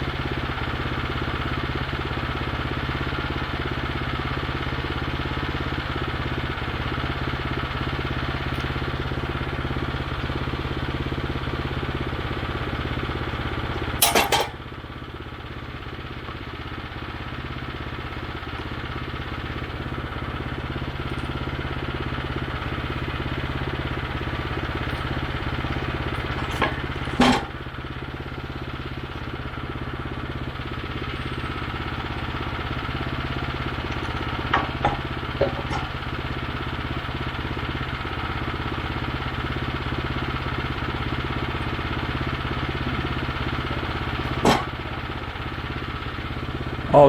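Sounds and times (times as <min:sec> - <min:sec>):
small gas engine running: 0:00.0 - 0:47.0.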